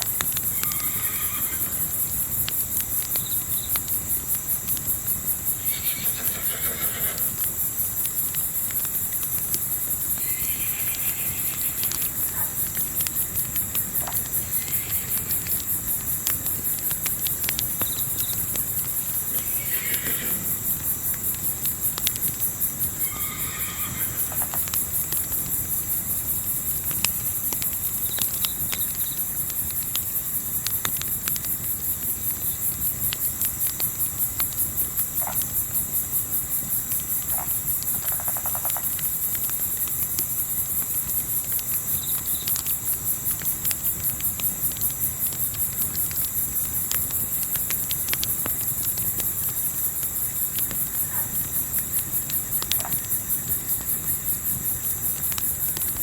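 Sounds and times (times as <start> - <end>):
campfire crackles: 0.0 - 56.0
crickets chirping: 0.0 - 56.0.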